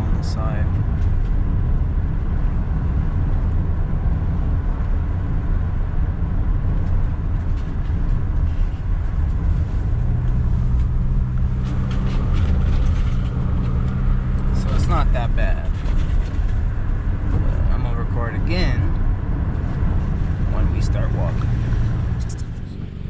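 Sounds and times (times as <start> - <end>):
car rumble from inside cabin: 0.0 - 23.0
low engine hum: 0.0 - 23.0.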